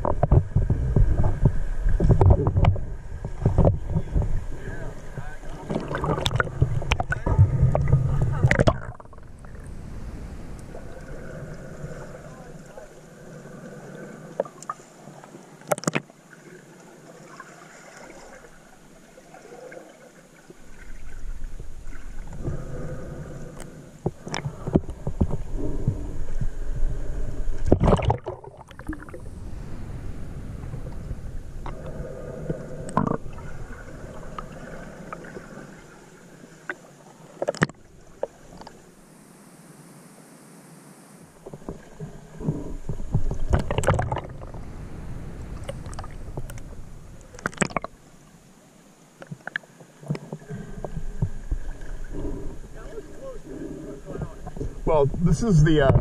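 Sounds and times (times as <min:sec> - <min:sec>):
muffled underwater water rumbling: 0:00.0 - 0:39.2, 0:41.2 - 0:56.0.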